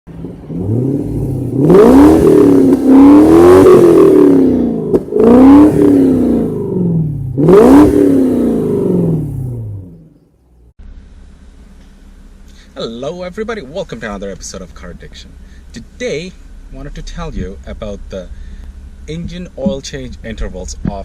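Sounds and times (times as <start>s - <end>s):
car engine revving: 0.1s - 12.7s, 13.4s - 21.0s.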